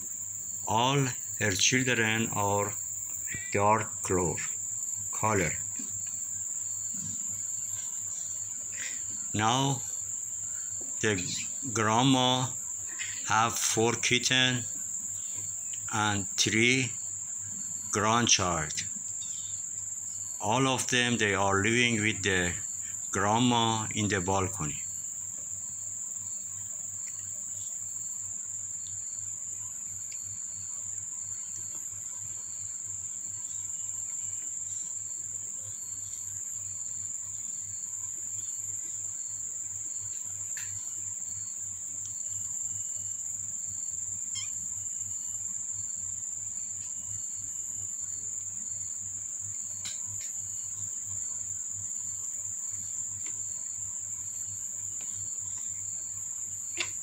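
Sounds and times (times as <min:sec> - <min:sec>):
high-pitched insect chirring: 0:00.0 - 0:57.0.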